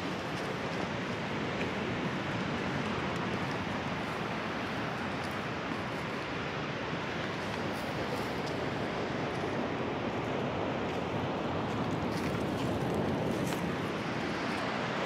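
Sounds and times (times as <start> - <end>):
ocean surf: 0.0 - 15.0
wind on microphone: 0.0 - 15.0.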